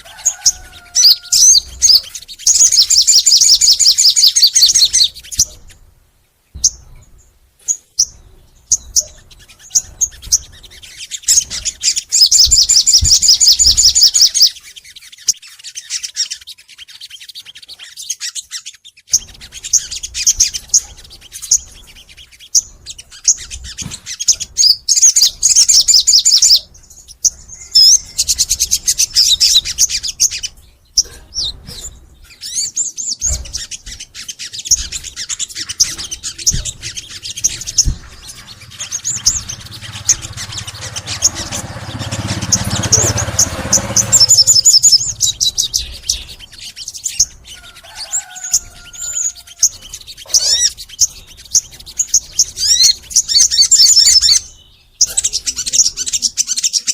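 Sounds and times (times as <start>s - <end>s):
songbird trilling: 0.0s - 5.8s, 6.6s - 56.9s
bird chirps and calls: 0.0s - 56.9s.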